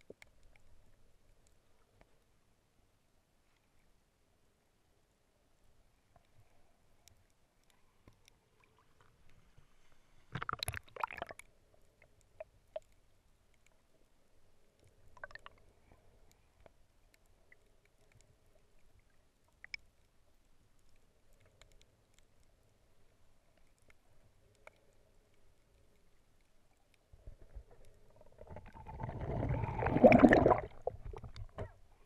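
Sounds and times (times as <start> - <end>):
faint underwater clicks and crackles: 0.0 - 32.0.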